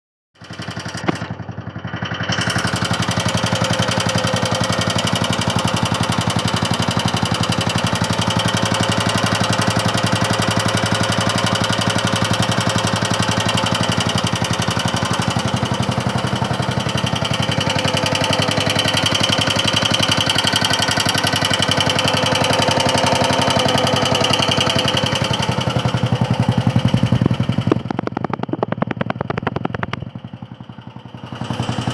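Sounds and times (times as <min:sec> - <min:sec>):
engine running with rattle: 0:00.4 - 0:31.9.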